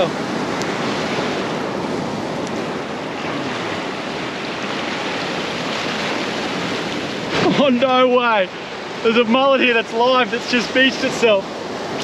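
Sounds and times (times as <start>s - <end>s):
waves washing over rocks: 0.0s - 12.0s.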